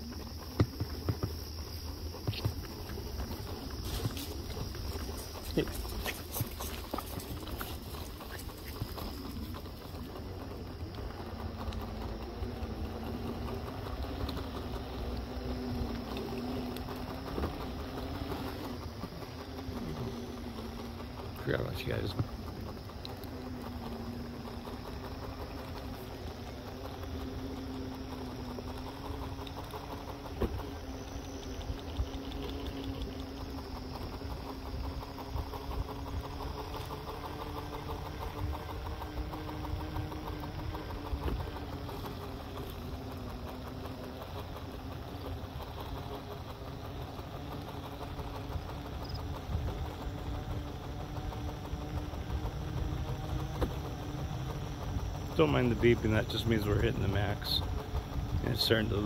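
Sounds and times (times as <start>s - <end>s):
electric motors whining: 0.0s - 59.0s
wheels rolling on concrete: 0.0s - 59.0s.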